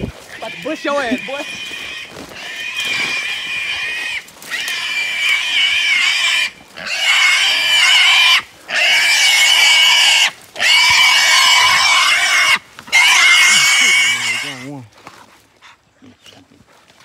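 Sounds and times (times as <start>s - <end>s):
hog squealing: 0.0s - 14.7s.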